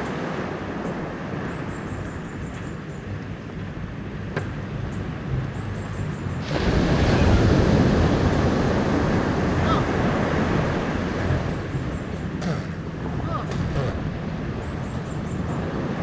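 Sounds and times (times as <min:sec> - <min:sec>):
rushing wind: 0:00.0 - 0:16.0
sea noise: 0:00.0 - 0:16.0.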